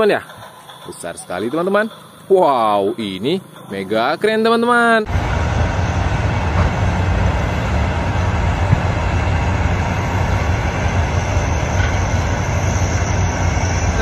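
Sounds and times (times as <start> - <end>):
crane diesel engines rumbling: 0.0 - 14.0.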